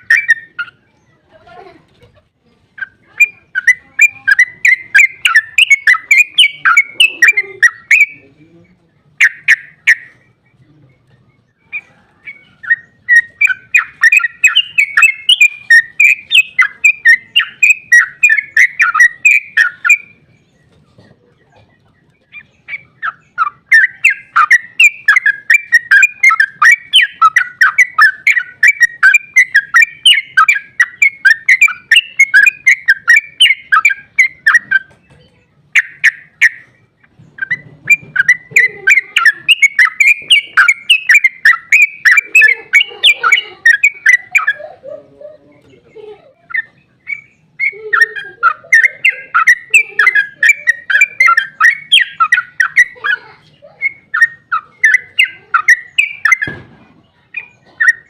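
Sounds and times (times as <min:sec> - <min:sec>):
bulbul singing fast chattering song: 0:00.0 - 0:01.6, 0:02.2 - 0:58.0.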